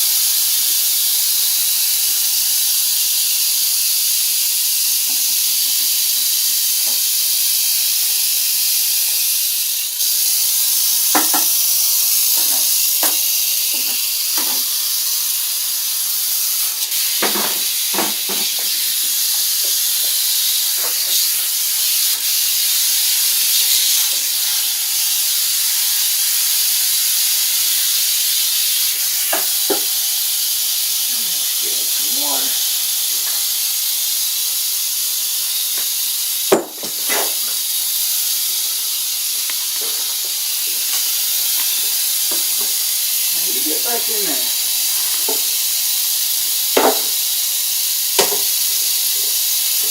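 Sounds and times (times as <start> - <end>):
rattlesnake tail rattle buzzing: 0.0 - 49.9.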